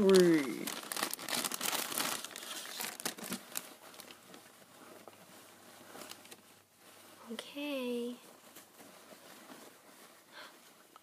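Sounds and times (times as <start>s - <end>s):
plastic and paper crinkling: 0.0s - 11.0s.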